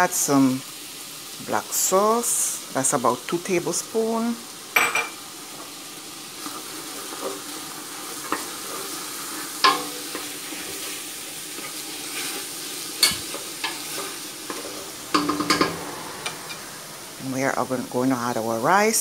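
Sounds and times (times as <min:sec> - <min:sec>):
vegetables sizzling in a pot: 0:00.0 - 0:19.0.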